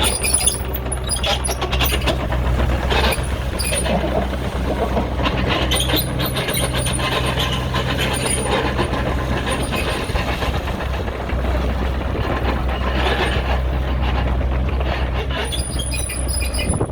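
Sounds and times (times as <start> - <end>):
excavator diesel engine running: 0.0 - 16.9
machine clattering and knocking: 0.0 - 16.9.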